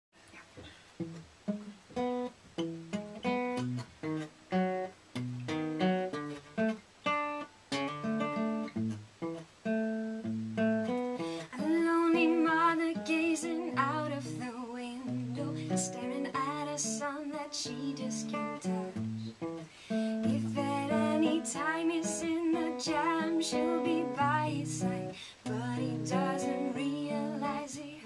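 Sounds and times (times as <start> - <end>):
acoustic guitar picking: 1.0 - 28.0.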